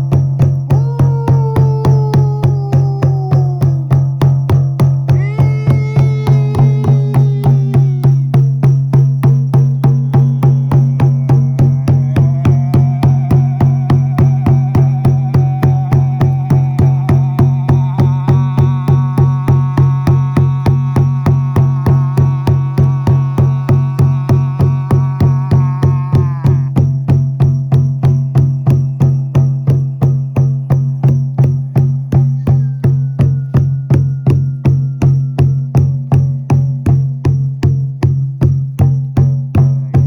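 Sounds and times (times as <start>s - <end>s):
frame drum beating: 0.0s - 40.0s.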